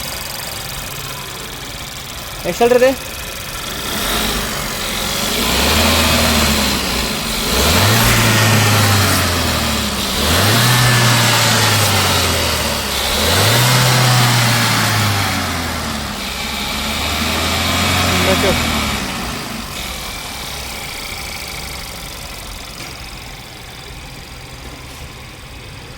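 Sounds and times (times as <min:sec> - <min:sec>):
car engine revving and idling: 0:00.0 - 0:25.9.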